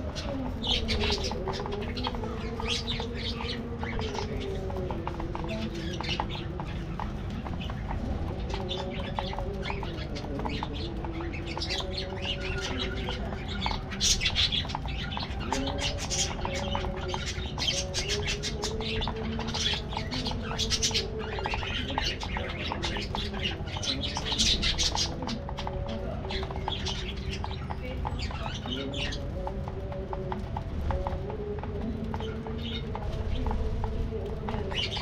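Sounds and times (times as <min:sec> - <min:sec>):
budgerigars chirping: 0:00.0 - 0:29.9.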